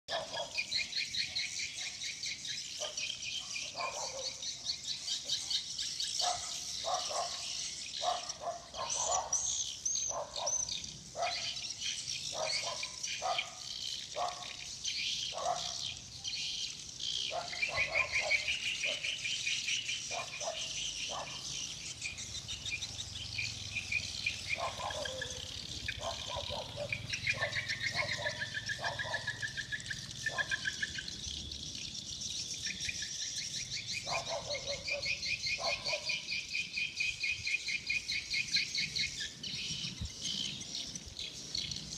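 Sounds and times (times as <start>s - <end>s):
high-pitched bird twittering: 0.1s - 41.9s.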